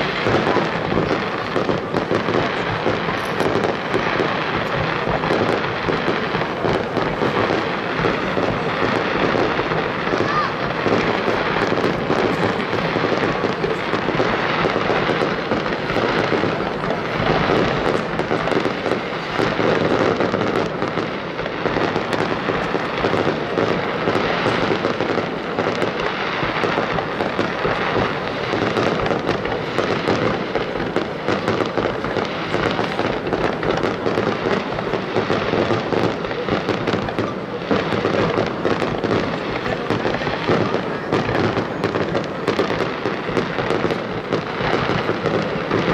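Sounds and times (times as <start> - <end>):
fireworks launching and bursting: 0.0 - 45.9.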